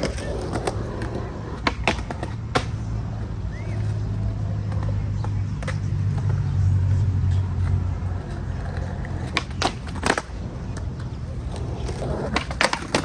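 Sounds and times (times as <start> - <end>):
skateboard clacking on ground: 0.0 - 13.0
skateboard wheels rolling on concrete: 0.0 - 13.0.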